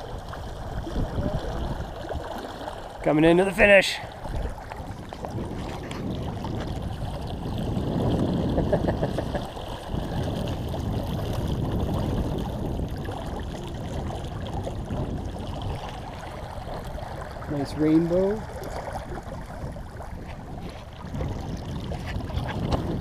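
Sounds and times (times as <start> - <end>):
water rushing along a hull: 0.0 - 23.0
wind buffeting the microphone: 0.0 - 23.0.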